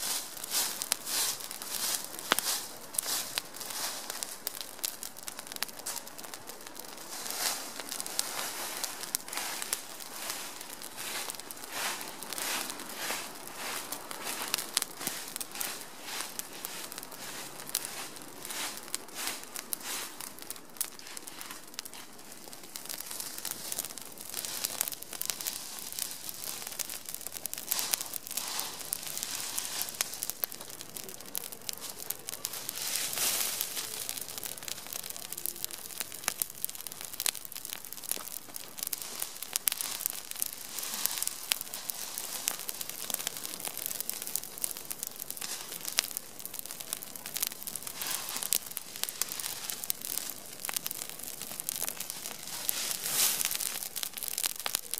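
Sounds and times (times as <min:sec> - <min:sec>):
bonfire crackling: 0:00.0 - 0:54.9.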